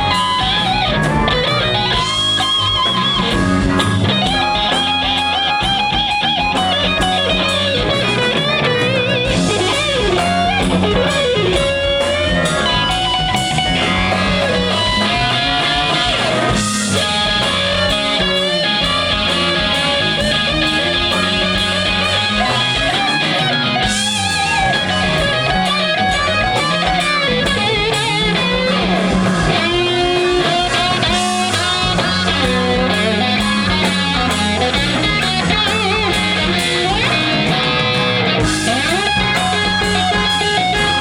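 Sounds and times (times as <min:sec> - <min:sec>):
bass guitar: 0:00.0 - 0:41.0
drums: 0:00.0 - 0:41.0
electric lead guitar: 0:00.0 - 0:41.0.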